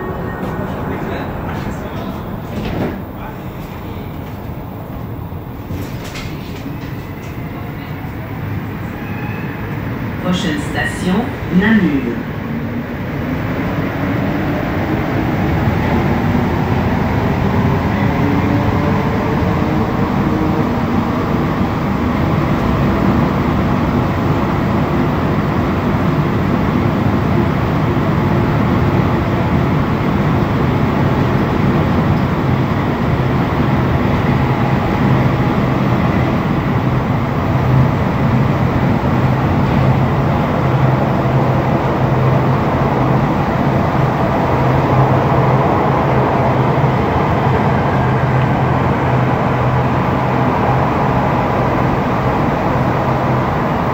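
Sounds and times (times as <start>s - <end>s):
train rumble from inside: 0.0s - 53.9s.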